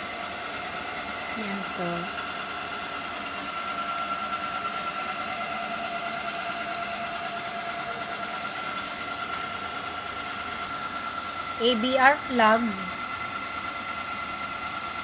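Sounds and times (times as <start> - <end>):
printer machine hum: 0.0 - 15.0.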